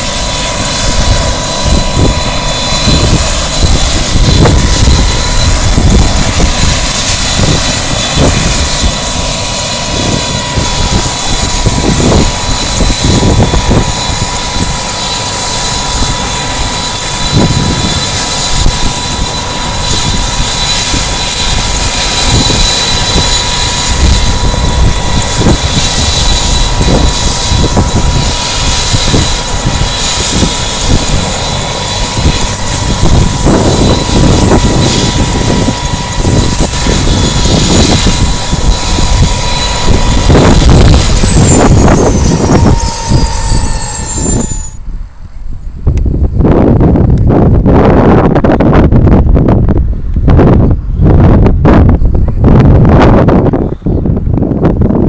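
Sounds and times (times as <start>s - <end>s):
helicopter turbine whine and rumble: 0.0s - 55.0s.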